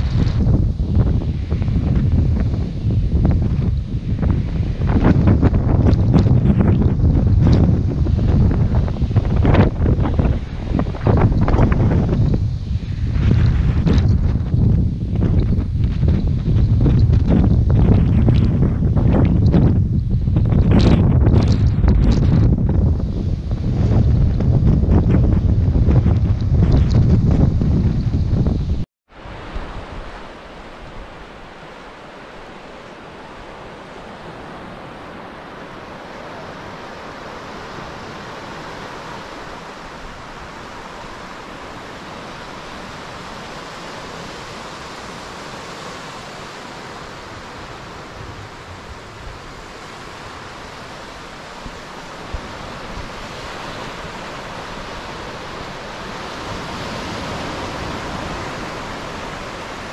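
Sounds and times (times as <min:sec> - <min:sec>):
surf hissing on sandy beach: 0:00.0 - 0:59.9
wind buffeting microphone: 0:00.0 - 0:59.9.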